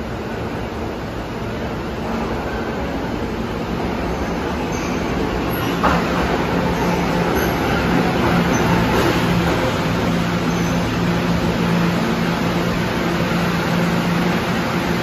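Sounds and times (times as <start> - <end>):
subway train slowing to a stop: 0.0 - 15.0.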